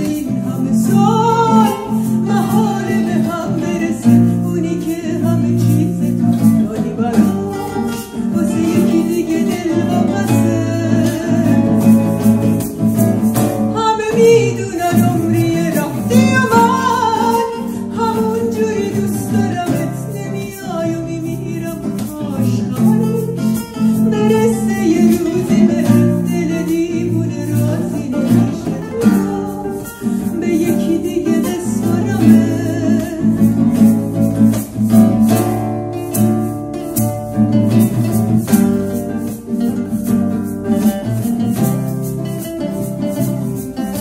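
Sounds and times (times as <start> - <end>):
acoustic guitars playing: 0.0 - 44.0
hand shaker rattling: 0.0 - 44.0.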